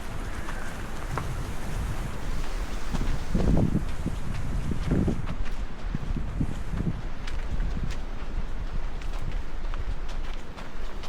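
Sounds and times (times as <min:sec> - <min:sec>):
faint footsteps: 0:00.0 - 0:11.0
wind buffeting microphone: 0:00.0 - 0:11.0.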